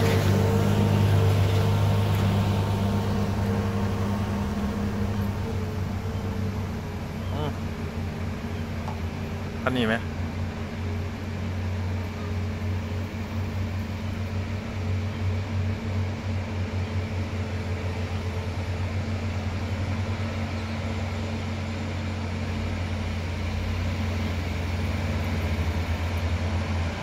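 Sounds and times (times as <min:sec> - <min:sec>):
diesel truck engine pulling hard: 0:00.0 - 0:27.0.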